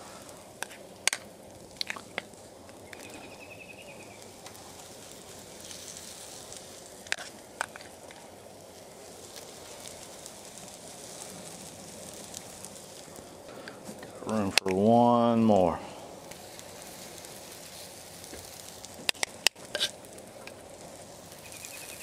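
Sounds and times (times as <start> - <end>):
food sizzling on a griddle: 0.0 - 22.0.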